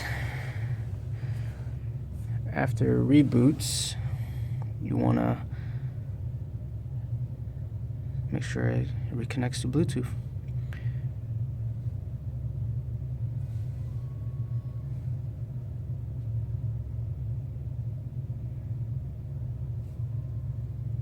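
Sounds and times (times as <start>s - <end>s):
low-pitched background rumble: 0.0s - 21.0s.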